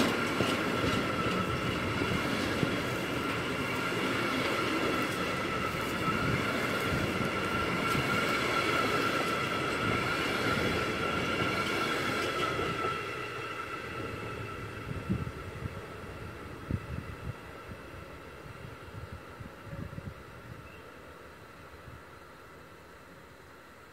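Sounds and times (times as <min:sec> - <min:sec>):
freight train rolling past: 0:00.0 - 0:23.8.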